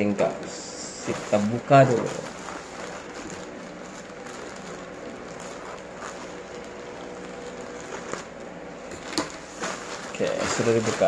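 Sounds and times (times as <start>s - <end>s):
plastic crinkling: 0.2s - 11.0s.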